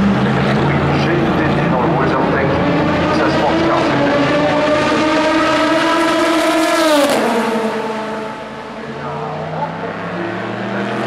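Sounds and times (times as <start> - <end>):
distant race car engine: 0.0 - 11.0
race car passing at speed: 0.0 - 11.0.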